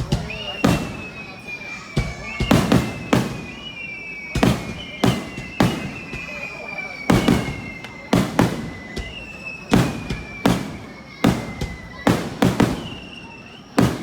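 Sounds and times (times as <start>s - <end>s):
firework bangs: 0.0s - 14.0s
firework whistling downward: 0.0s - 14.0s.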